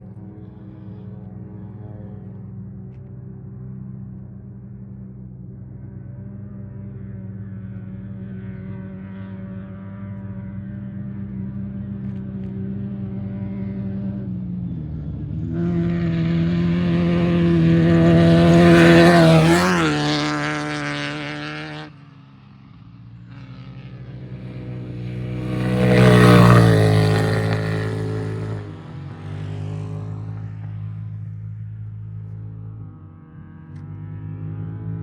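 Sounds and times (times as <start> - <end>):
race vehicles passing at speed: 0.0 - 35.0
steady engine drone: 0.0 - 35.0.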